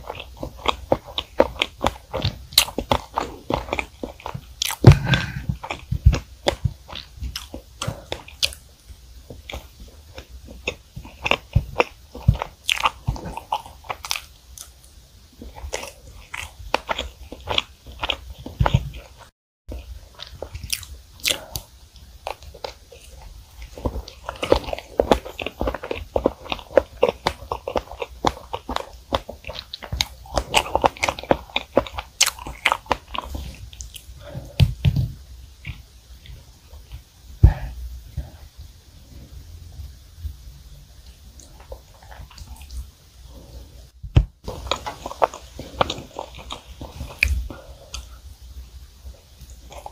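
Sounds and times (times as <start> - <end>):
soft wet chewing: 0.0 - 40.0, 41.0 - 49.9.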